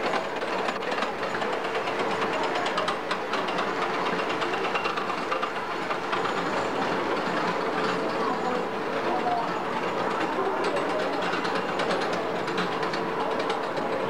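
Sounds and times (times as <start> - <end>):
roller coaster wheels rattling on rails: 0.0 - 14.0.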